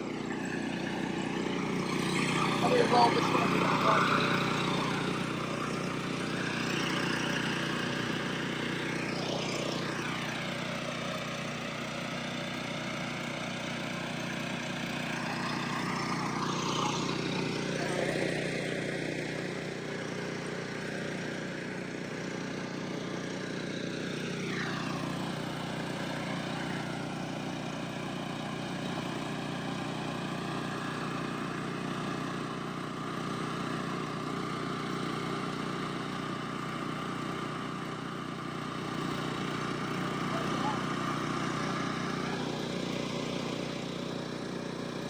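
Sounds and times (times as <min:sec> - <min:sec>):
motor humming: 0:00.0 - 0:32.5, 0:33.2 - 0:45.0.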